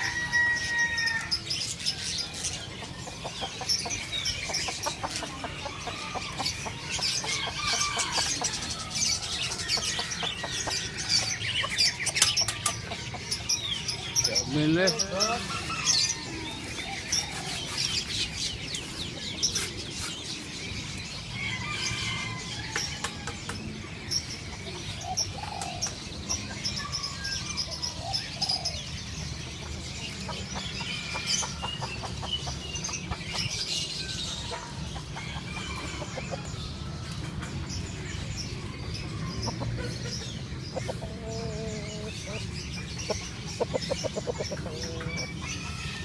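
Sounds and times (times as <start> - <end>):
birds chirping and whistling: 0.0 - 46.0
chickens clucking: 0.0 - 46.0.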